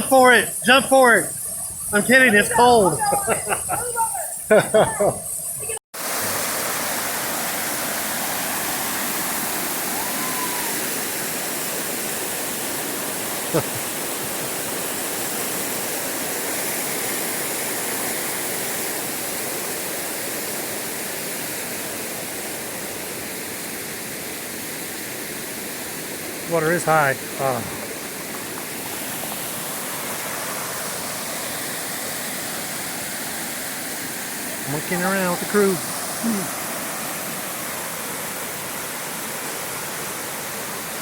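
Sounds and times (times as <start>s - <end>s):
waterfall rushing over rock: 0.0s - 41.0s.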